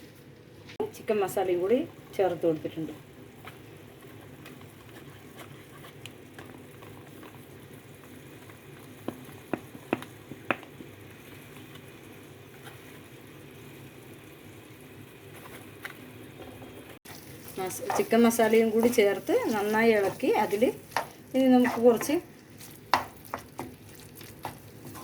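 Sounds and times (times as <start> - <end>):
curry sizzling in a pan: 1.1 - 25.0.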